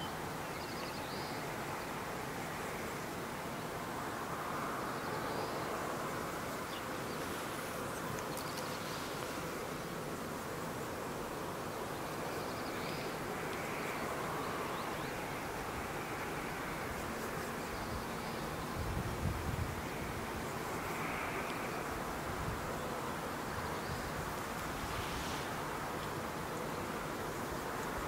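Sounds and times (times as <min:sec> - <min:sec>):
steady outdoor hiss: 0:00.0 - 0:28.0.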